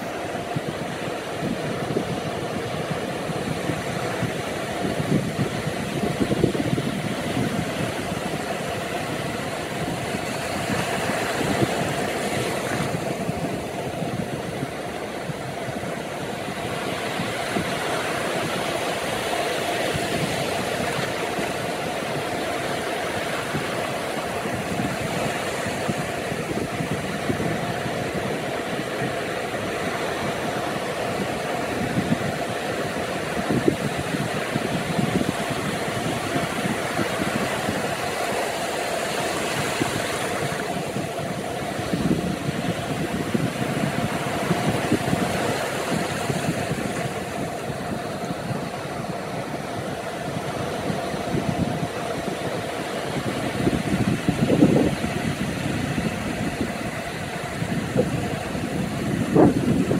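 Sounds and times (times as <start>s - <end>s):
surf breaking on beach: 0.0s - 59.9s.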